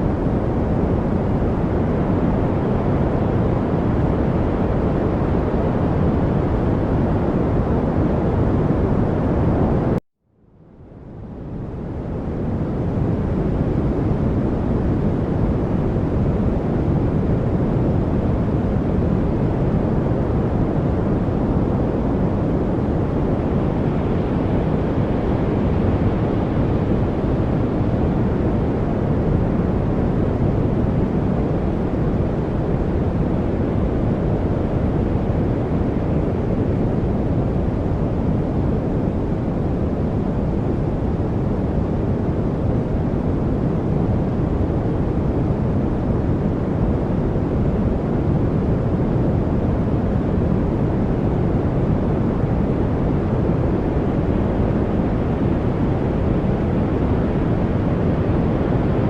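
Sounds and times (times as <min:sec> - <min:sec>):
steady brown noise: 0:00.0 - 0:10.0, 0:10.6 - 0:59.0.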